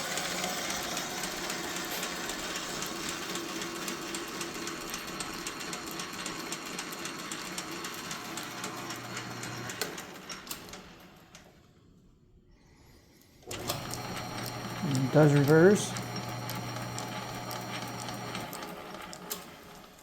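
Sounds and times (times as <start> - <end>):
metal lathe running with ticking: 0.0 - 10.0, 13.5 - 19.9.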